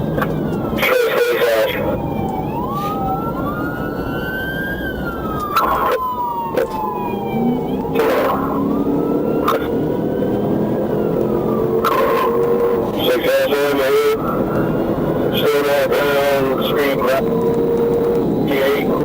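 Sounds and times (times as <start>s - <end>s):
police siren wailing: 0.0s - 19.0s
road and engine noise: 0.0s - 19.0s.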